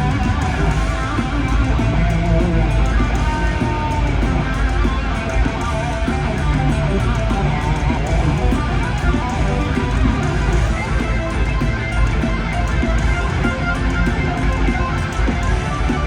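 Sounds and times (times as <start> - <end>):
electric guitar solo: 0.0 - 16.0
heavy metal backing band: 0.0 - 16.0.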